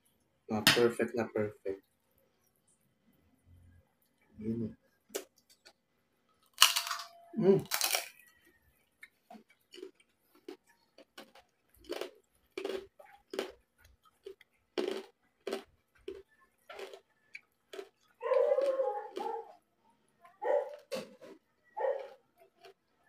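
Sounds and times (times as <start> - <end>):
chewing crispy food: 1.8 - 23.0.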